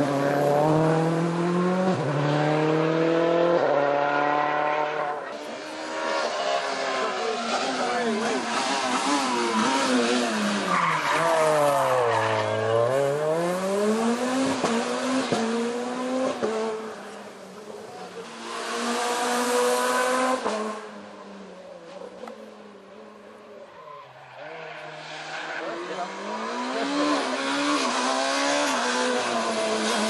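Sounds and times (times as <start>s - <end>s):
rally car engine revving and shifting: 0.0s - 30.0s.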